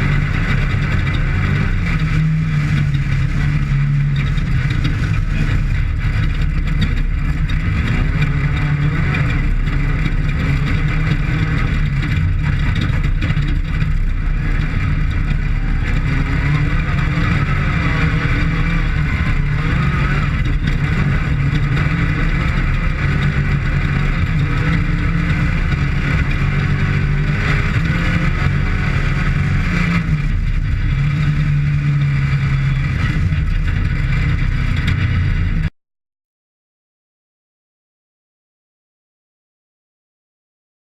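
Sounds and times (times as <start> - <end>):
rattle over rough terrain: 0.0 - 35.7
vehicle engine running hard: 0.0 - 35.7.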